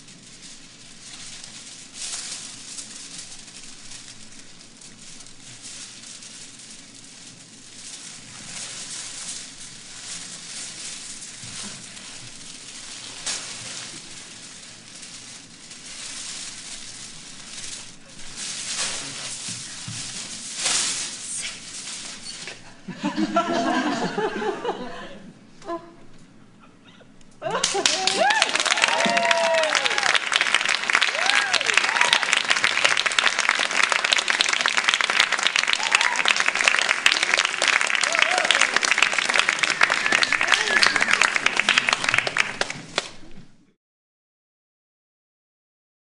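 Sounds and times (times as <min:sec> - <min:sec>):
foil sheet crinkling and rustling: 0:00.0 - 0:22.7, 0:27.7 - 0:43.3
foil dragged over stage floor: 0:00.0 - 0:24.5, 0:27.7 - 0:43.6.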